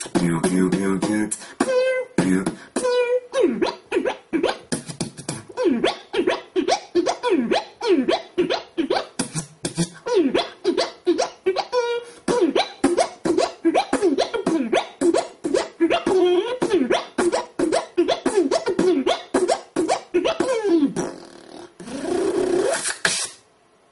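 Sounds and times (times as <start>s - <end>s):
beatboxing drum hits: 0.0s - 23.3s.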